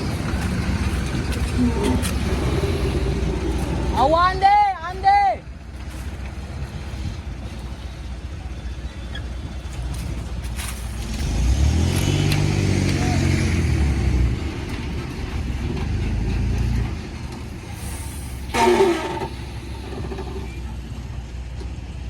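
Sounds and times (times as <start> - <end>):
diesel engine revving: 0.0 - 4.8, 5.5 - 22.0.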